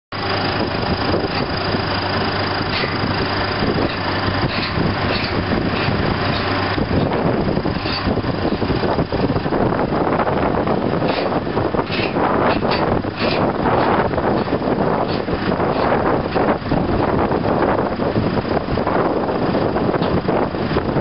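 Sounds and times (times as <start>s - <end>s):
heavy diesel equipment running: 0.1s - 21.0s.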